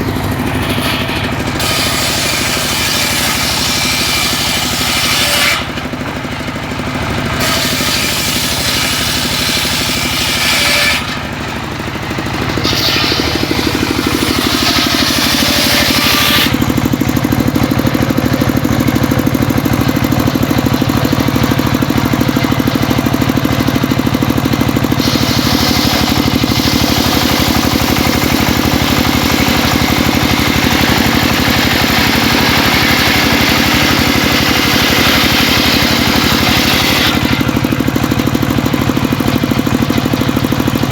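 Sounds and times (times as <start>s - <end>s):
circular saw cutting wood: 0.0s - 40.9s.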